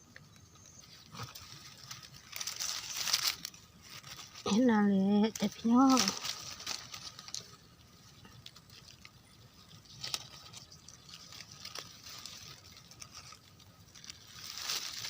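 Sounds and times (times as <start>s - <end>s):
rustling dry leaves: 0.6s - 15.0s
twigs snapping: 1.1s - 4.6s, 5.3s - 15.0s.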